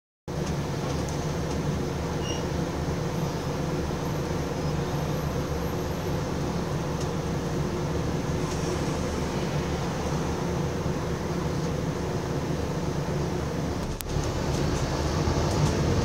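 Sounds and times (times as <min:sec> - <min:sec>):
bus diesel engine hum: 0:00.3 - 0:16.0.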